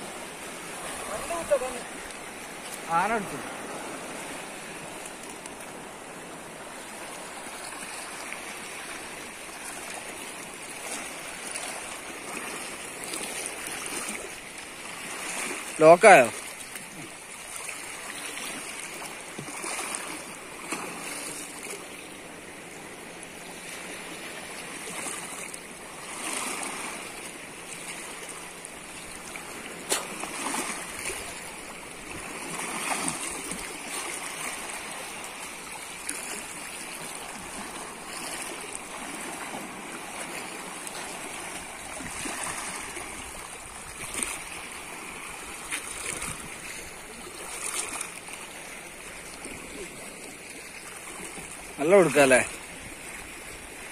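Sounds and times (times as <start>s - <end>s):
water splashing around wader: 0.0s - 53.8s
small waves lapping: 0.0s - 53.9s.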